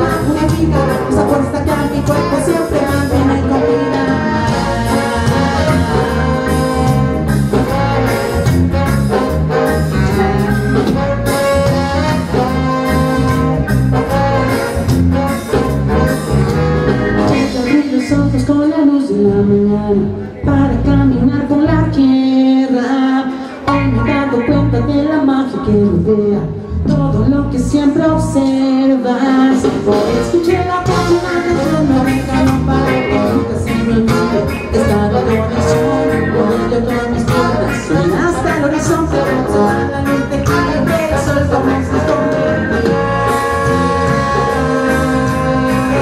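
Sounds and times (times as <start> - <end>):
live band with horn section: 0.0 - 46.0.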